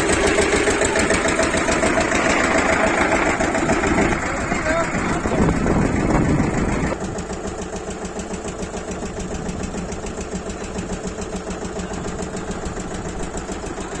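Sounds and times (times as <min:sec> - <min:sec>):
drilling machine engine running: 0:00.0 - 0:14.0.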